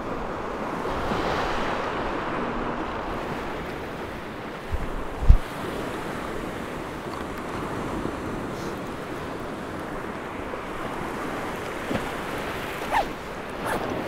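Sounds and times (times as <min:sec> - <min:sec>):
waves washing onto shore: 0:00.0 - 0:14.0
wind buffeting microphone: 0:01.9 - 0:14.0.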